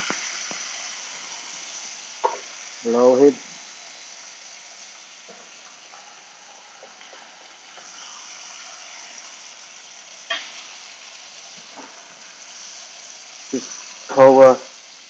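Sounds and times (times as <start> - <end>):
steaks sizzling in frying pan: 0.0 - 15.0.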